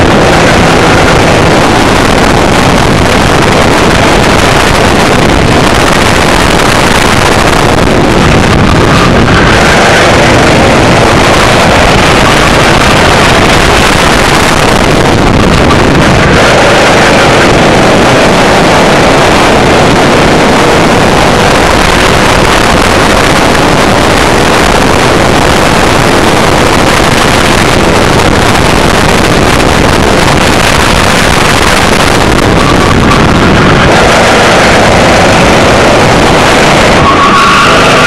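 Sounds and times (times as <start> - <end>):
kart engine running at speed: 0.0 - 38.0
wind buffeting microphone: 0.0 - 38.0.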